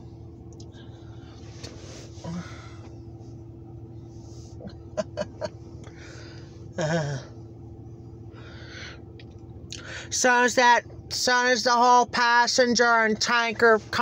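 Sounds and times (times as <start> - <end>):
diesel locomotive idling: 0.0 - 14.0.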